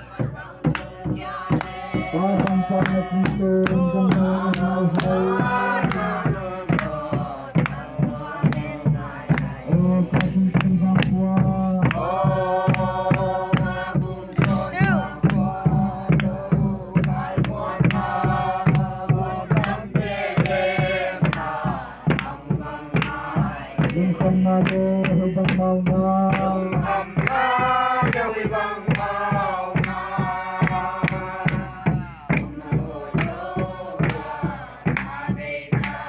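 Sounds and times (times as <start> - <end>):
drum beat: 0.0 - 36.0
group of voices chanting: 0.0 - 36.0.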